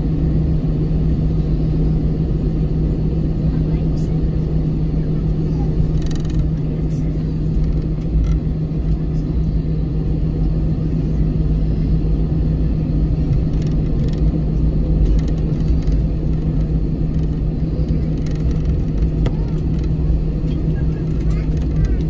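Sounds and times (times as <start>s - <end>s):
jet engine low rumble: 0.0s - 22.0s
steady hum: 0.0s - 22.0s.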